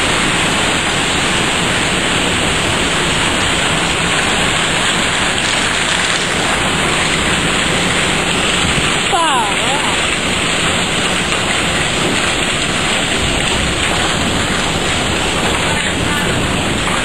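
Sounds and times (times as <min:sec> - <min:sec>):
hail and heavy rain pelting: 0:00.0 - 0:17.0.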